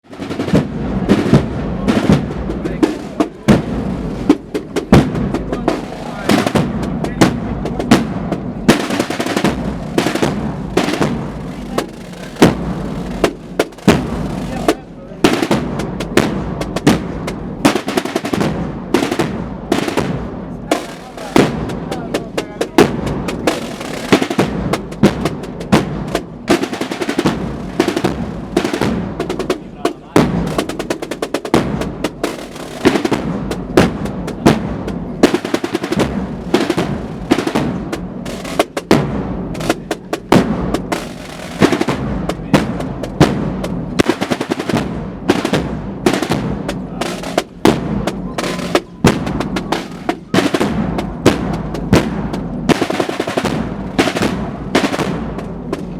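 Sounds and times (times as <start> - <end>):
snare drums rolling: 0.0 - 55.9.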